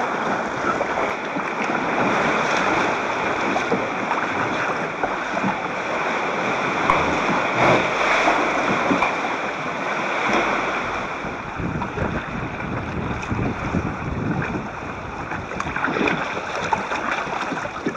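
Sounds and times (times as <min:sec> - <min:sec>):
sea water sloshing and splashing: 0:00.0 - 0:17.9.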